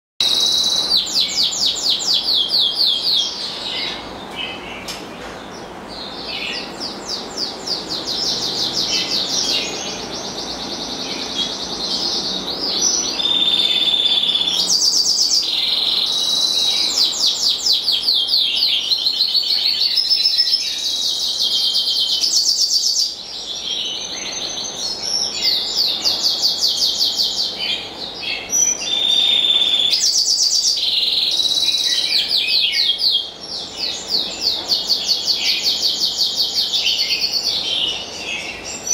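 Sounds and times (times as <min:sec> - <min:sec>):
bird singing rapid trills: 0:00.2 - 0:38.9.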